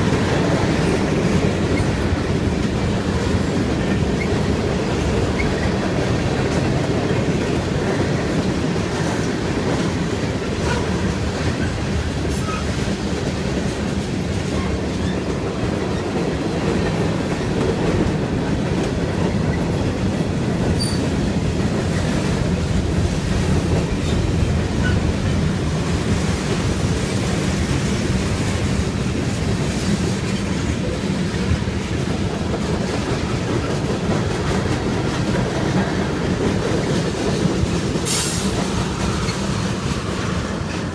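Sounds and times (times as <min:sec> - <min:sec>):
freight train passing on rails: 0:00.0 - 0:40.9.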